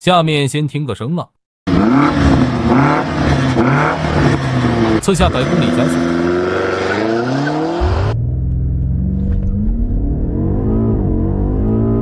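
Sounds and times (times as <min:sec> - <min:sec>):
car engine accelerating: 0:01.7 - 0:12.0.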